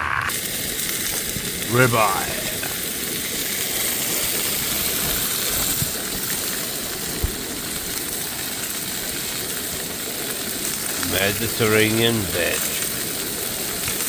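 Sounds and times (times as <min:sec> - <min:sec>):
steak sizzling in a frying pan: 0:00.3 - 0:01.7, 0:02.3 - 0:11.4, 0:12.5 - 0:14.0.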